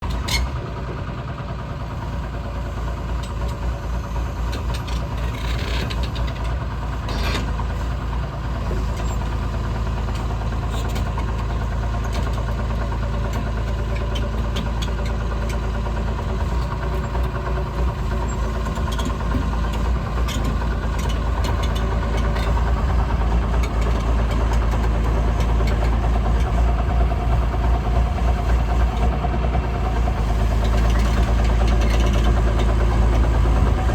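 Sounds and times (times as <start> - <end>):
diesel excavator engine idling: 0.0 - 33.9.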